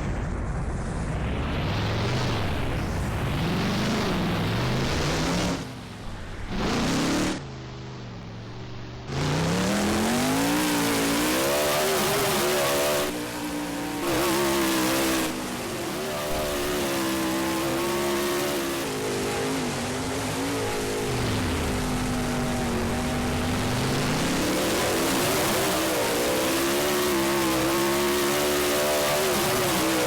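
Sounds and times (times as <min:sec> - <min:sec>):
monster truck engine revving: 0:01.7 - 0:07.5, 0:09.0 - 0:30.0.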